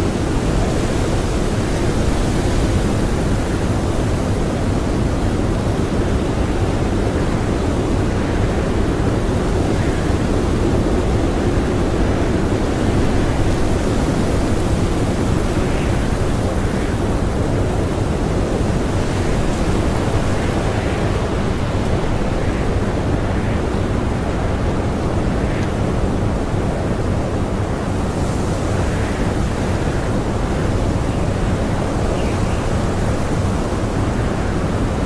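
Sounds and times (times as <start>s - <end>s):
blizzard wind howling: 0.0s - 35.0s.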